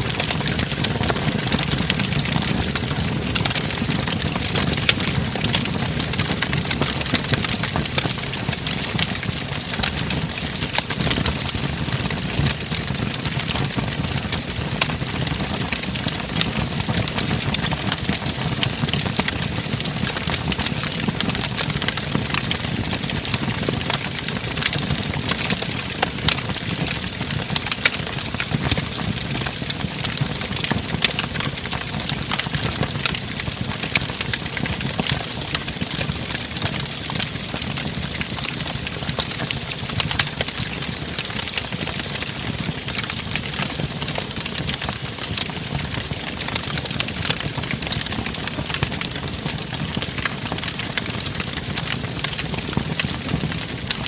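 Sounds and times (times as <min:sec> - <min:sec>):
flames rumbling: 0:00.0 - 0:54.0
wood fire crackling and popping: 0:00.0 - 0:54.0.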